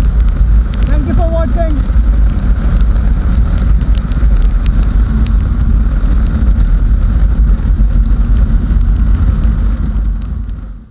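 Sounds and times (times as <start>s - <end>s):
motorcycle engine running: 0.0s - 10.9s
wind rumble on microphone: 0.0s - 10.9s.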